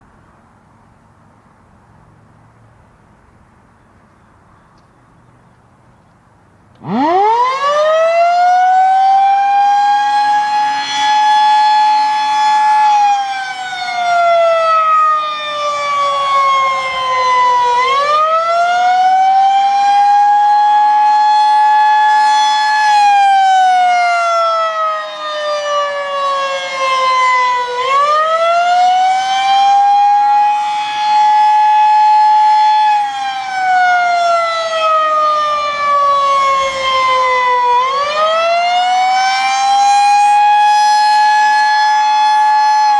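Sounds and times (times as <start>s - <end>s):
warning siren wailing: 6.8s - 42.9s.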